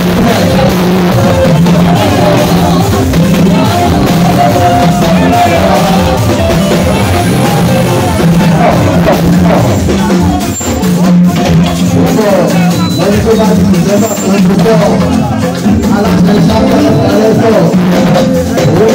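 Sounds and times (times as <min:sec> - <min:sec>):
drums: 0:00.0 - 0:18.9
singers on microphones: 0:00.0 - 0:18.9.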